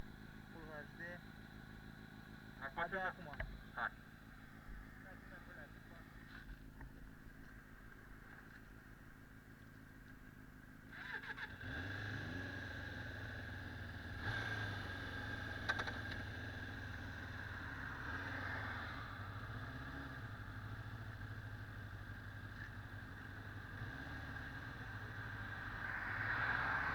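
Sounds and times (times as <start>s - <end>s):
motorcycle engine: 0.0s - 26.9s.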